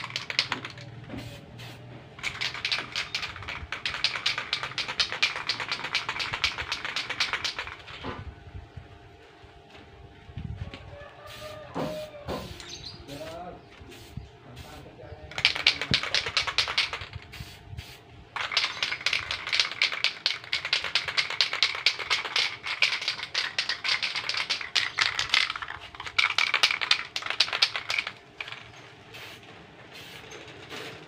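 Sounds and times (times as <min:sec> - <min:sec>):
spray can rattling: 0:00.0 - 0:08.0, 0:13.9 - 0:31.0.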